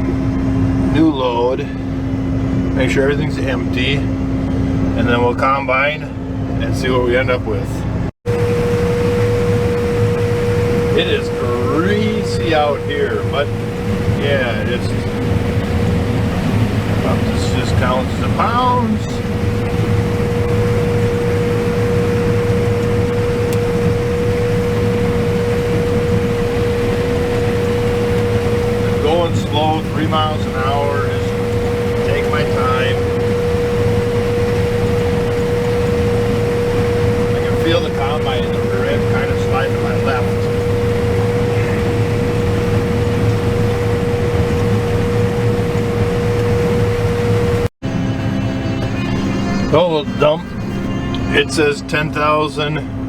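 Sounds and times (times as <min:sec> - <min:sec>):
combine harvester rumbling: 0:00.0 - 0:53.0
constant mid-pitched whine: 0:00.0 - 0:53.0.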